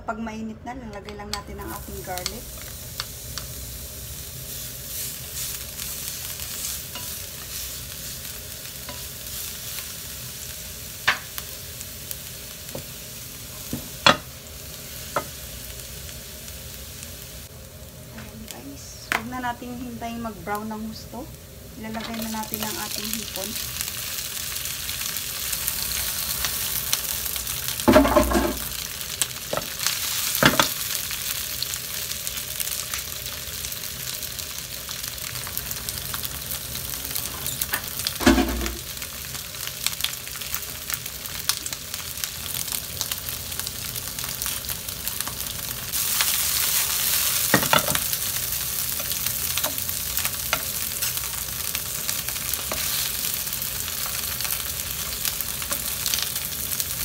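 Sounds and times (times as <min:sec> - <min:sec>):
shrimp sizzling in hot oil: 0:01.3 - 0:57.0.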